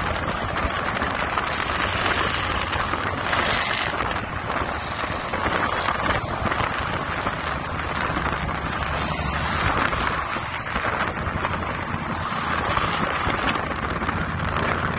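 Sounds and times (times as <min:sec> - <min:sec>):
tyre and road noise: 0:00.0 - 0:14.9
wind rushing over microphone: 0:00.0 - 0:14.9.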